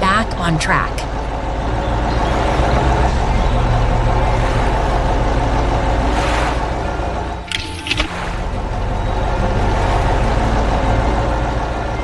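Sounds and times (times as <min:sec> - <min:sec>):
excavator engine rumble: 0:00.0 - 0:12.0.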